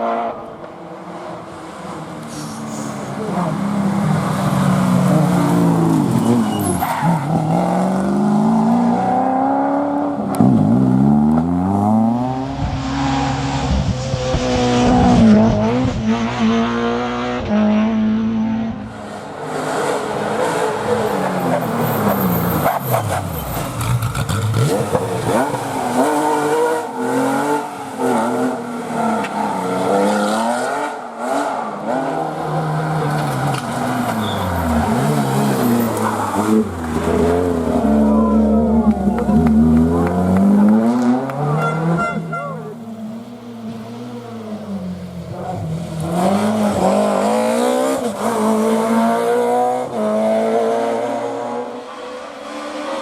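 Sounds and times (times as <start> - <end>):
rally car engines revving hard: 1.2 - 53.0.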